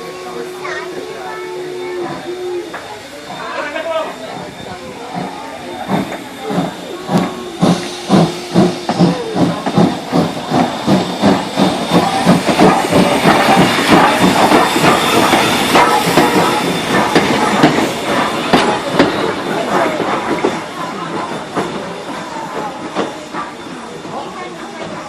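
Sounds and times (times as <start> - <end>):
steam hissing: 0.0 - 25.0
steam locomotive chuffing: 0.0 - 25.0.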